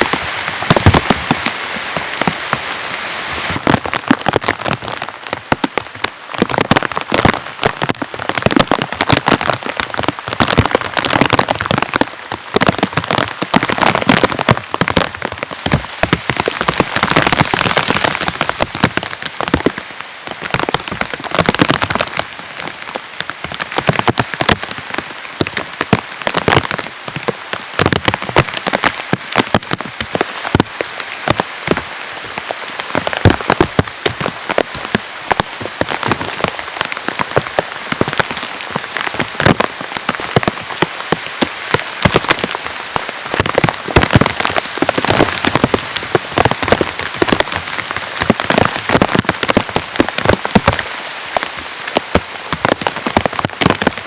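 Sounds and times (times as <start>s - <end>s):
heavy rain: 0.0s - 54.0s
loud raindrops striking close: 0.0s - 54.0s.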